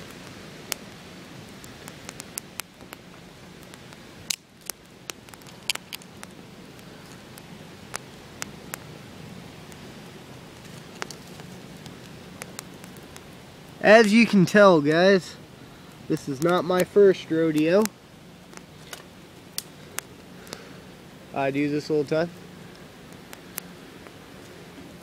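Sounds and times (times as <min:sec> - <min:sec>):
campfire crackling and popping: 0:00.0 - 0:25.0
fire hiss: 0:00.0 - 0:25.0.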